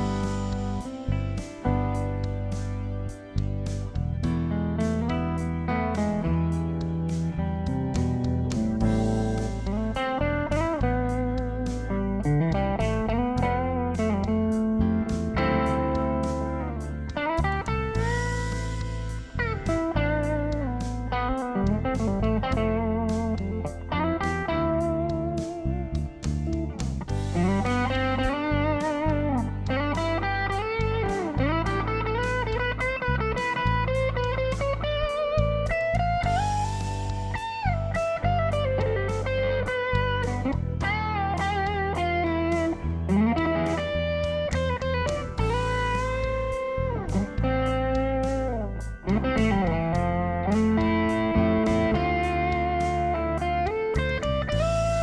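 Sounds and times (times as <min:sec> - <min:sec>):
electric guitar bluesy lead: 0:00.0 - 0:55.0.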